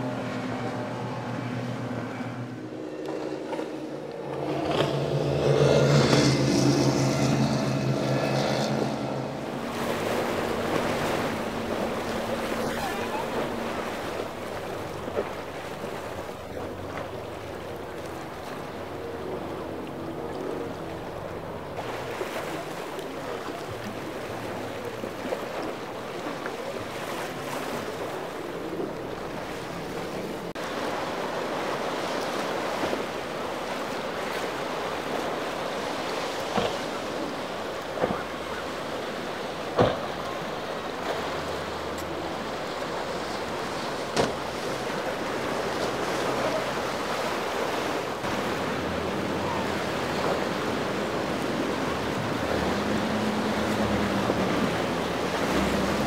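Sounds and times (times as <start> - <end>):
waves washing: 0.0 - 56.0
wind: 0.0 - 56.0.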